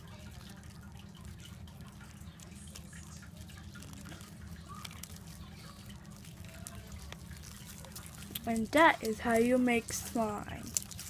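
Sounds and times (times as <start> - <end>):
low steady hum: 0.0 - 11.0
slime squelching by hand: 0.0 - 11.0.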